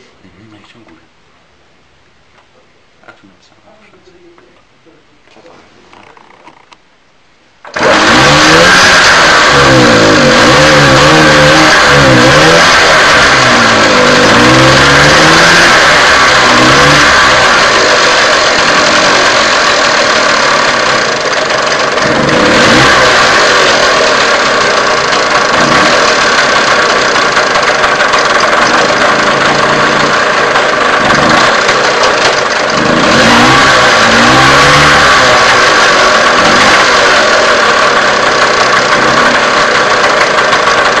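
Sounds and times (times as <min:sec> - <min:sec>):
moped engine revving: 0:07.6 - 0:41.0.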